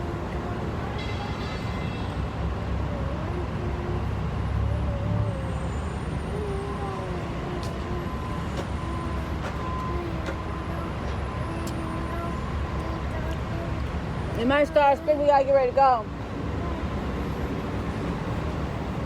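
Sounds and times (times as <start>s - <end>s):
vehicle low rumble: 0.0s - 19.0s.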